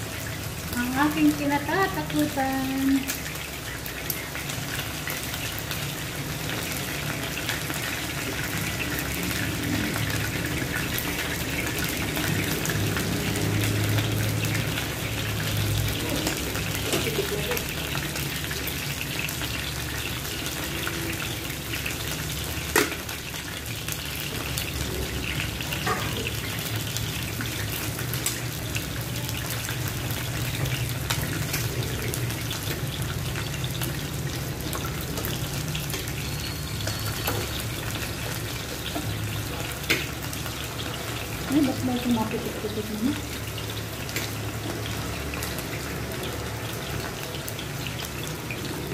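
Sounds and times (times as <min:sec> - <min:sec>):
chicken sizzling in oil: 0:00.0 - 0:48.9.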